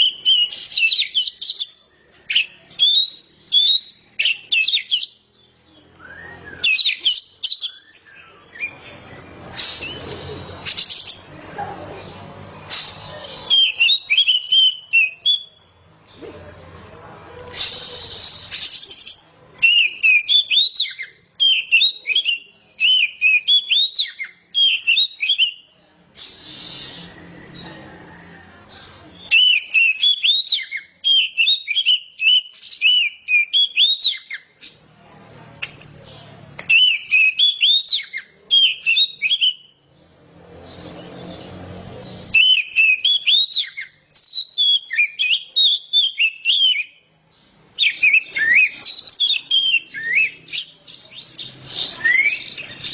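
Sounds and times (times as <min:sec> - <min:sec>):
magpie-robin whistled song: 0:00.0 - 0:11.4, 0:12.0 - 0:15.9, 0:17.5 - 0:34.8, 0:36.0 - 0:39.9, 0:40.6 - 0:52.9.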